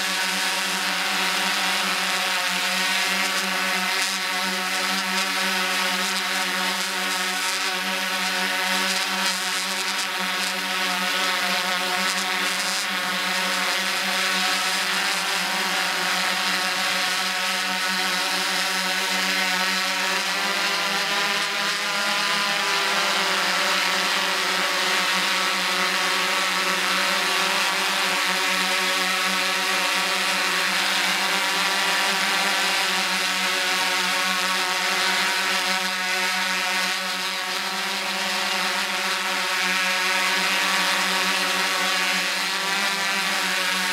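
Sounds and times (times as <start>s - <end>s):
drone motors and propellers humming: 0.0s - 43.9s.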